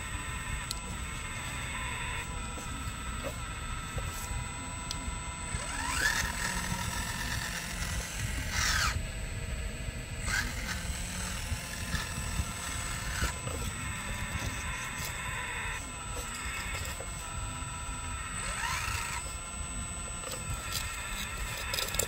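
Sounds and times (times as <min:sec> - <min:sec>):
small electric motors whining: 0:00.0 - 0:22.0.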